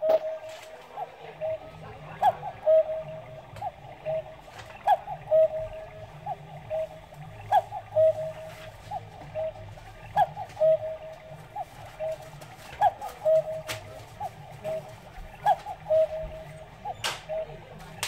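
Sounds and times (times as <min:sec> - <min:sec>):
cuckoo clock calling: 0:00.0 - 0:18.0.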